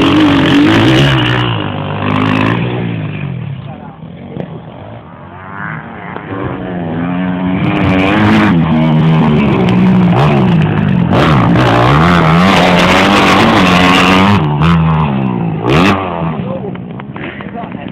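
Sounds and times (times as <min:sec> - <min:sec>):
motocross bike engine revving: 0:00.0 - 0:17.5.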